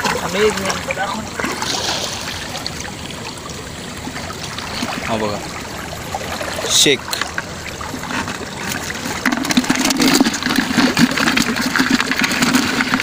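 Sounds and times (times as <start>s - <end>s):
fish flapping in bucket: 0.0s - 13.0s.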